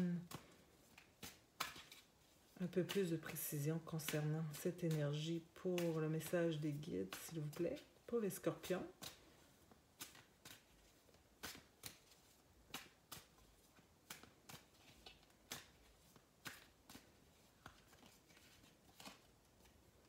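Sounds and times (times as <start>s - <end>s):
cards being shuffled: 0.1s - 20.0s.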